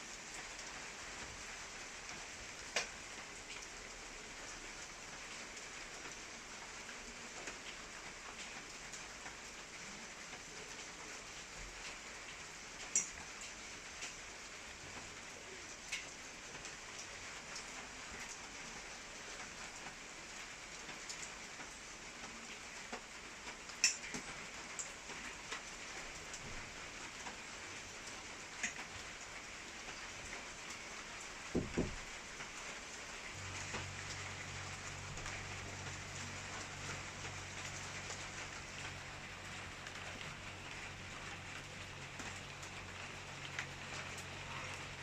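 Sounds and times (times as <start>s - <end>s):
raindrops ticking on a surface: 0.0s - 45.0s
steady rain falling: 0.0s - 45.0s.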